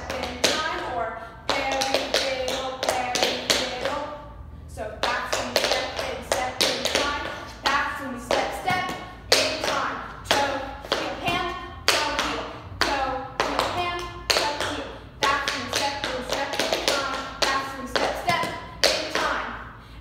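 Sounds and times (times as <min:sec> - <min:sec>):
girl singing: 0:00.0 - 0:19.6.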